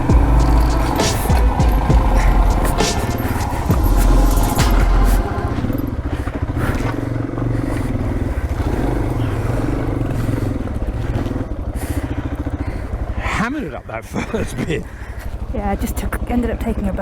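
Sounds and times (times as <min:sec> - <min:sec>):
motorcycle engine under load: 0:00.0 - 0:17.0.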